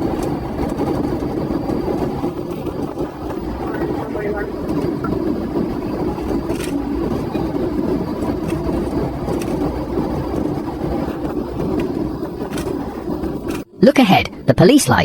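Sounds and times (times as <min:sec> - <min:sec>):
police car engine and road noise: 0:00.0 - 0:13.8.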